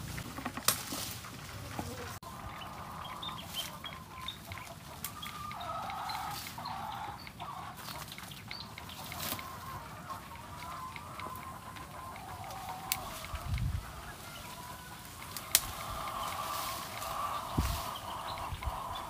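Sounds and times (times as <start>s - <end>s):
chickens clucking: 0.0s - 19.0s
small birds chirping: 1.6s - 19.0s.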